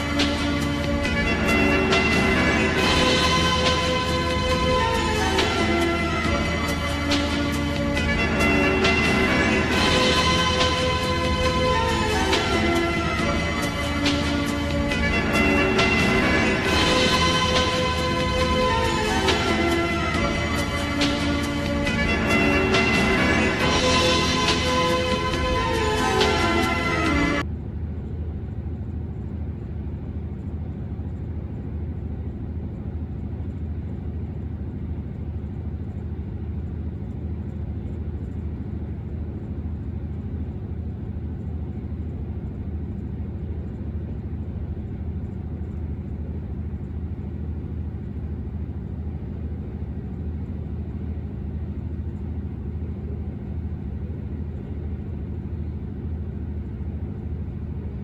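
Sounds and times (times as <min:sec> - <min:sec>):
diesel train engine drone: 0:00.0 - 0:58.0.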